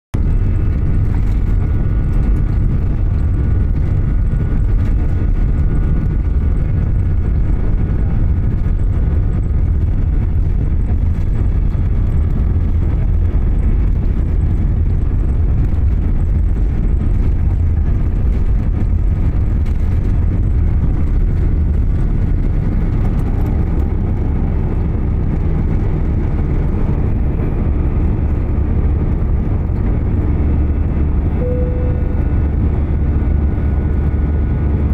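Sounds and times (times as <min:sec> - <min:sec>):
faint engine whine: 0:00.2 - 0:34.9
jet engines rumbling: 0:00.2 - 0:34.9.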